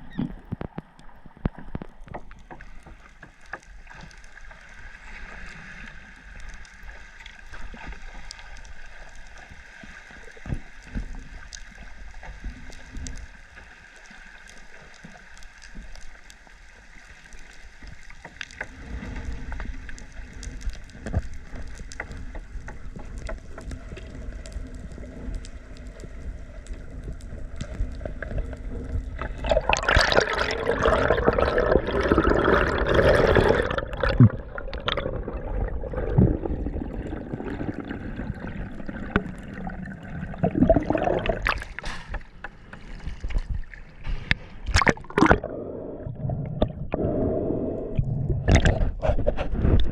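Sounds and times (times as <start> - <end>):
water sloshing and gurgling: 0.0 - 49.9.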